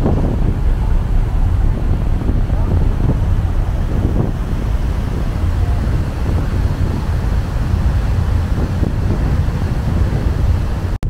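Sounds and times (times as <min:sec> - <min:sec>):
ship wake churning: 0:00.0 - 0:11.0
wind buffeting microphone: 0:00.0 - 0:11.0.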